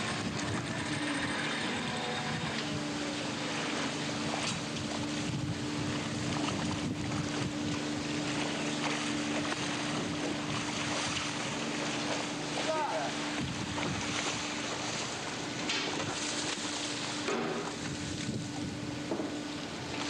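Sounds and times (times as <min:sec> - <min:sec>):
wind buffeting microphone: 0:00.0 - 0:03.0, 0:04.2 - 0:16.7, 0:17.7 - 0:19.9
boat engine humming: 0:00.0 - 0:20.0
sea water rushing along hull: 0:00.0 - 0:20.0.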